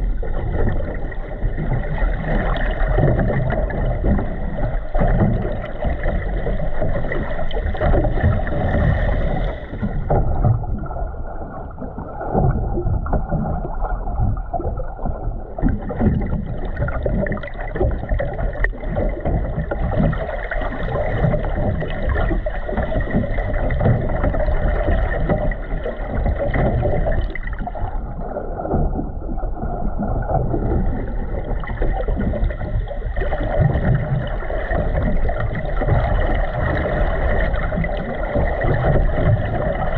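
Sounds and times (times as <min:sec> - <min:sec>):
underwater low rumble: 0:00.0 - 0:39.9
water sloshing and gurgling: 0:00.0 - 0:39.9.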